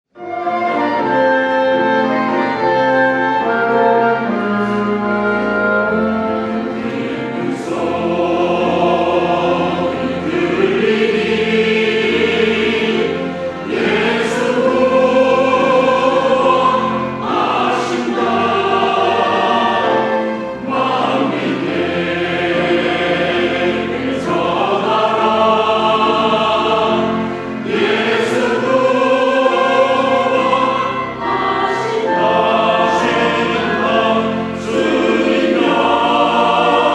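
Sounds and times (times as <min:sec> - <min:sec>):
church choir singing: 0:00.2 - 0:36.9
instrumental accompaniment: 0:00.2 - 0:36.9.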